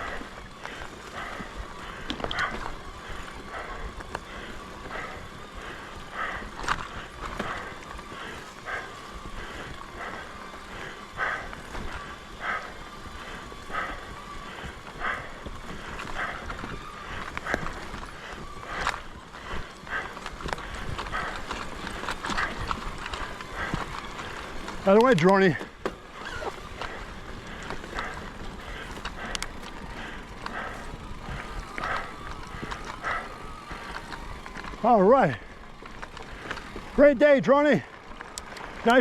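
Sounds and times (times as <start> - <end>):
faint steady whine: 0.0 - 39.0
mountain bike rolling on dirt trail: 0.0 - 39.0.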